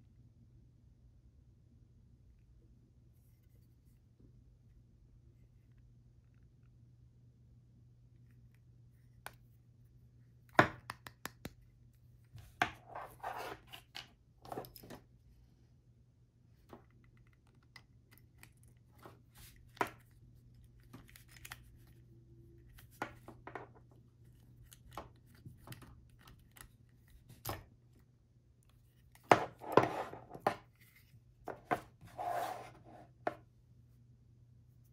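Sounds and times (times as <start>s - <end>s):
faint low hum: 0.0s - 34.9s.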